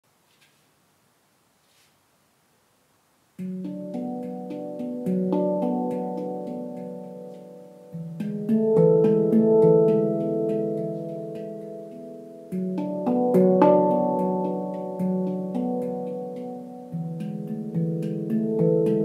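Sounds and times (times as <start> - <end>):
handpan notes ringing: 3.4 - 19.0.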